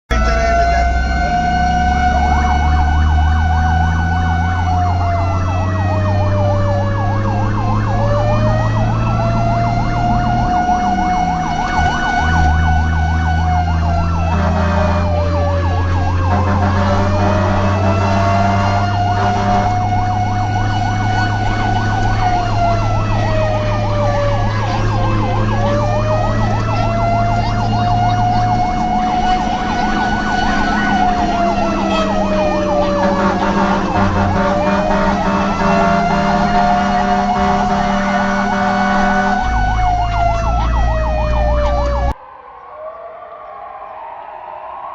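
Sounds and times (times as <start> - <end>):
engine rumble: 0.1 - 42.2
fire engine siren: 0.1 - 44.9.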